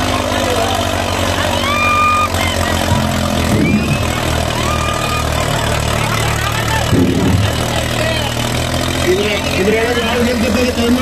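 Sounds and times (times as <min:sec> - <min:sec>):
crowd shouting: 0:00.0 - 0:10.2
diesel tractor engine running hard: 0:00.0 - 0:11.0.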